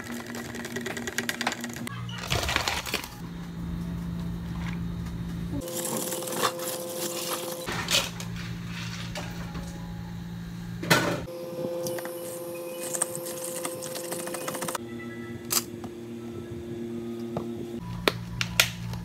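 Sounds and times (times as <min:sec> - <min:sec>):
appliance hum: 0:00.0 - 0:19.0.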